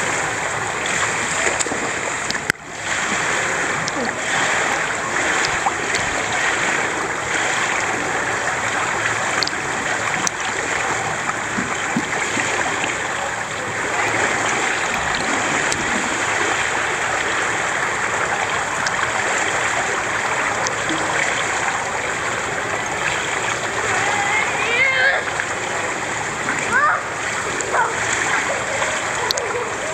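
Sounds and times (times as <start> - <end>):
pool water lapping and sloshing: 0.0 - 29.9.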